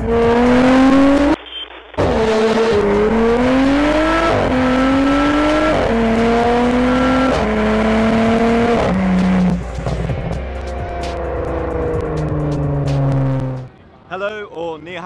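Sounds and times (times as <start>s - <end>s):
car engine accelerating in tunnel: 0.0s - 1.4s, 2.0s - 13.7s.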